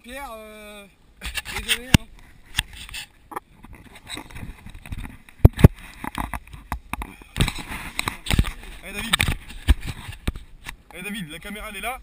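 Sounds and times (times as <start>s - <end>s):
rustling noise: 1.2s - 12.0s.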